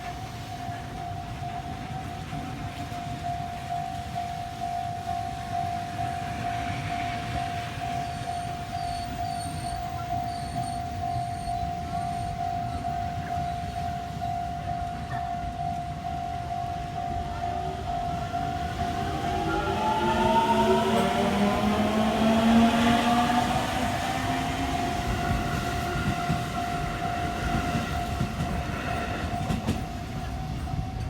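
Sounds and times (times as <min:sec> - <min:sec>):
level crossing alarm ringing: 0:00.0 - 0:31.0.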